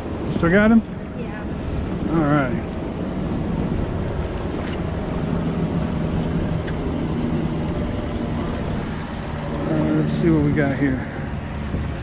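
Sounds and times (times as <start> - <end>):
outboard motor humming: 0.0 - 12.0
water washing along hull: 0.0 - 12.0
wind buffeting microphone: 0.0 - 12.0.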